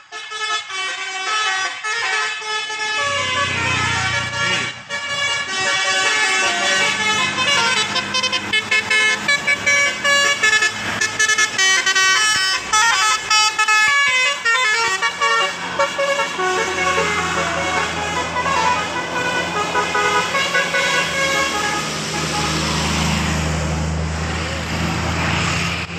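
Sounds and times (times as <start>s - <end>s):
musical air horn melody: 0.1s - 22.8s.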